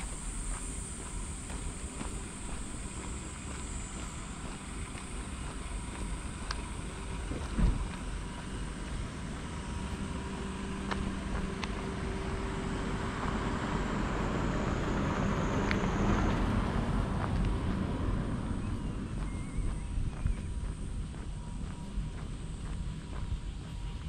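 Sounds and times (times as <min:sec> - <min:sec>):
faint vehicle engine hum: 0:00.0 - 0:24.0
wind rumble on microphone: 0:00.0 - 0:24.0.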